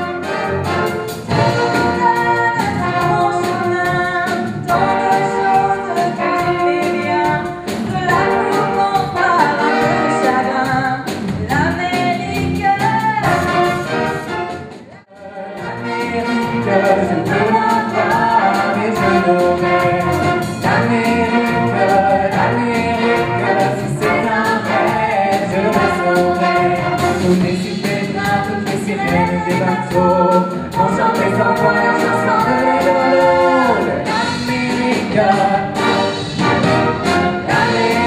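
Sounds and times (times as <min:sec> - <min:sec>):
steady drum beat: 0:00.0 - 0:38.0
wind band playing: 0:00.0 - 0:38.0.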